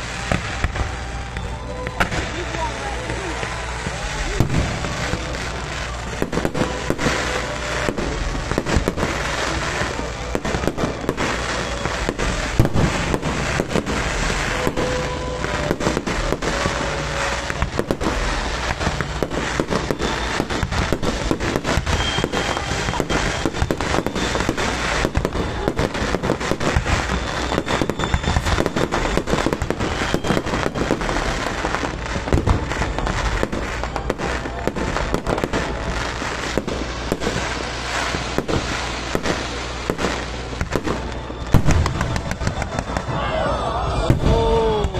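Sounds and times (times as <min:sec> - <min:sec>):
fireworks bursting: 0:00.0 - 0:44.9.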